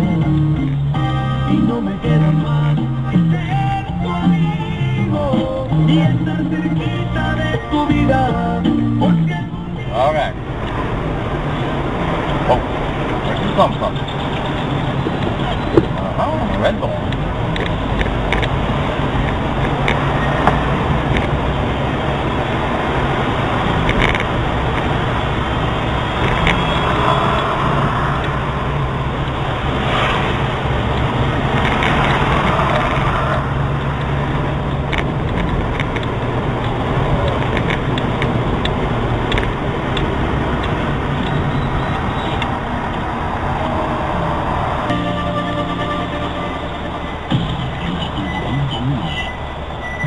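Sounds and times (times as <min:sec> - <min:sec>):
car engine drone: 0:00.0 - 0:50.0
road noise: 0:00.0 - 0:50.0.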